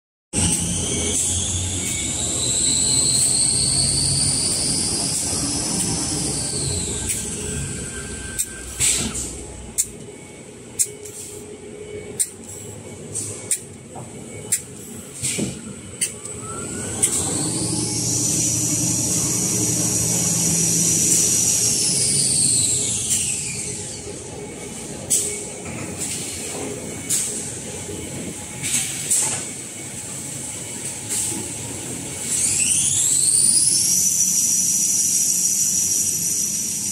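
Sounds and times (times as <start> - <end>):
machine humming with high whine: 0.4 - 36.9.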